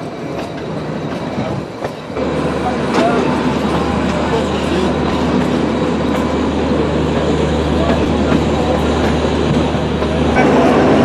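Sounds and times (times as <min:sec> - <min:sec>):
train rumbling slowly: 0:00.0 - 0:11.0.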